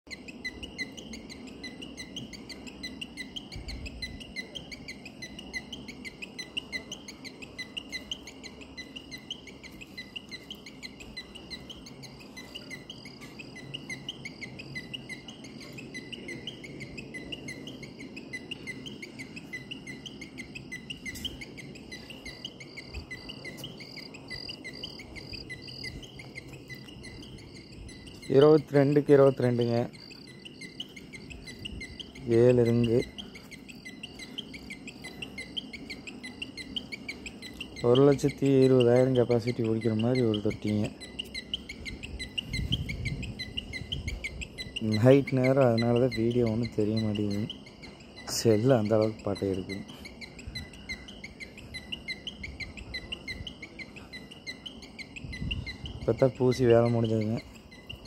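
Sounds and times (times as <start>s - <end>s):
crickets chirping: 0.1s - 58.0s.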